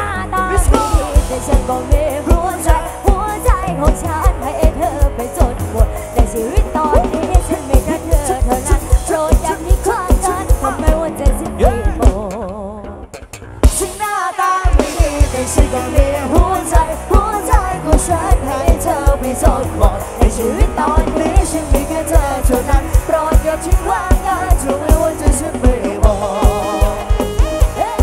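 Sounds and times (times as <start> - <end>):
melodic lead line: 0.0 - 12.3, 13.6 - 28.0
person singing: 0.0 - 13.0, 13.8 - 28.0
fast bass drum beat: 0.0 - 28.0
live band playing pop song: 0.0 - 28.0.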